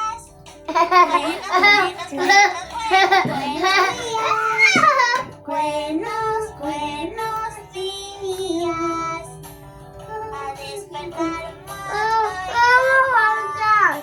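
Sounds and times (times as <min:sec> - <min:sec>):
song with high singing voice: 0:00.0 - 0:14.0.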